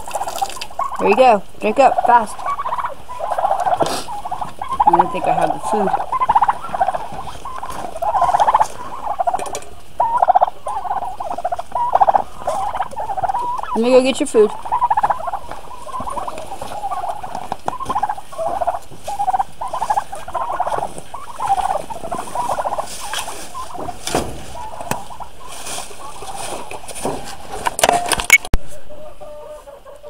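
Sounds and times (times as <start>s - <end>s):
turkeys calling: 0.0s - 30.0s.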